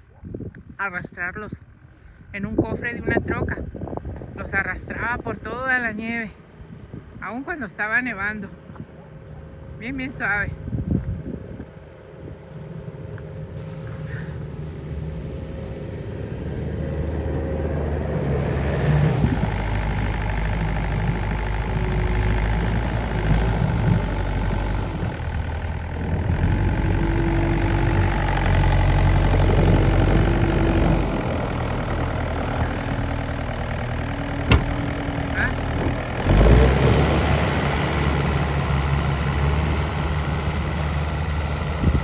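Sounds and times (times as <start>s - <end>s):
vehicle engine running: 3.7s - 42.0s.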